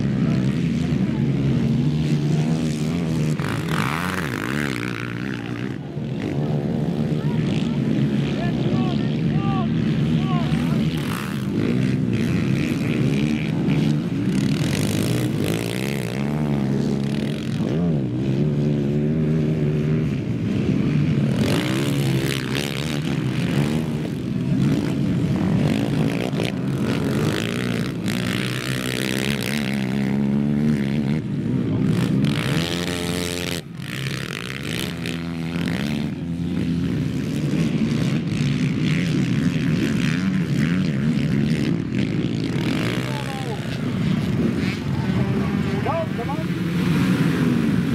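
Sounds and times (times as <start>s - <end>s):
quad engines revving: 0.0s - 47.9s.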